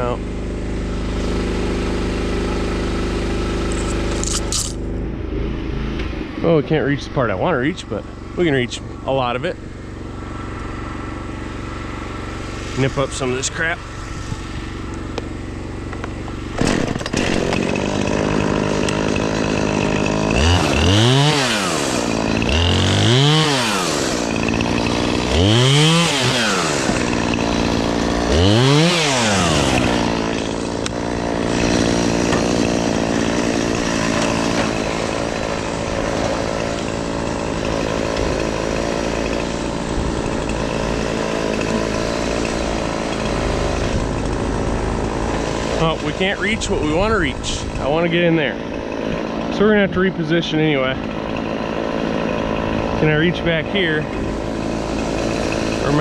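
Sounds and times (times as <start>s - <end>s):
chainsaw revving: 0.0s - 5.5s, 7.2s - 56.0s.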